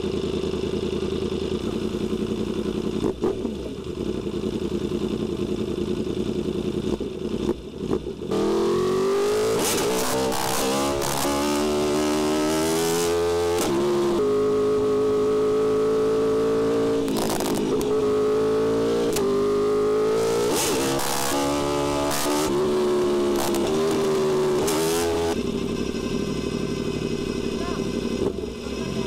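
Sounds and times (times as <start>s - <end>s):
motorcycle engine running hard: 0.0s - 29.0s.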